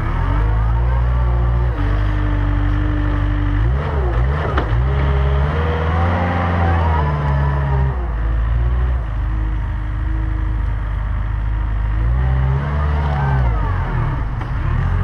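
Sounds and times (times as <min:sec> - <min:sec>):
wheel loader engine under load: 0:00.0 - 0:15.0.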